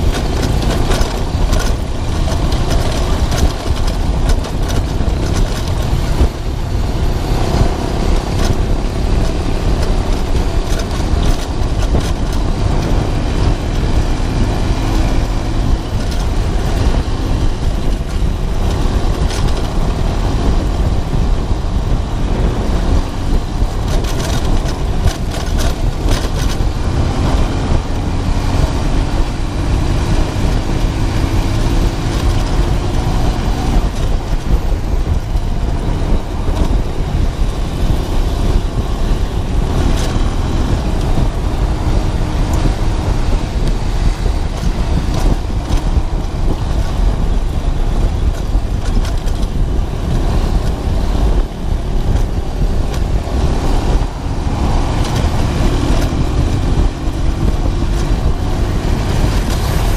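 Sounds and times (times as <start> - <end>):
motorcycle engine cruising: 0.0 - 59.9
wind and road rush: 0.0 - 59.9.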